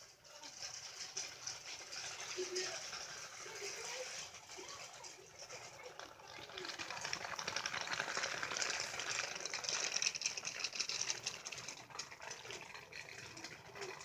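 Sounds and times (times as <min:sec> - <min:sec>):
water gushing: 0:00.3 - 0:14.0.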